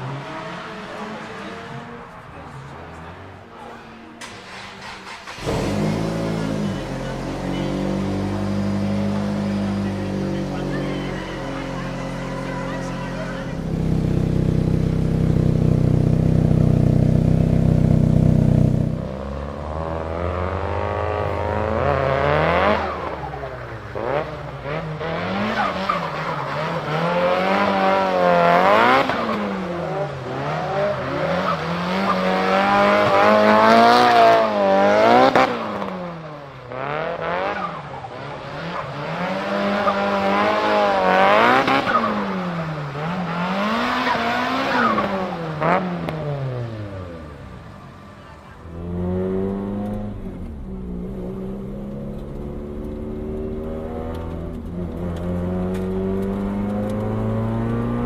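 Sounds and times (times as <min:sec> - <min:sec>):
turbocharged car engine revving: 0:00.0 - 0:58.0.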